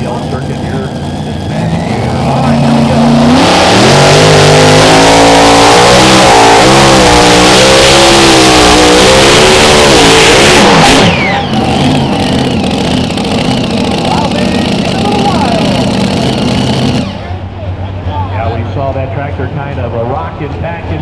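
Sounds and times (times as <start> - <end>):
tractor engine at full throttle: 0.0 - 21.0.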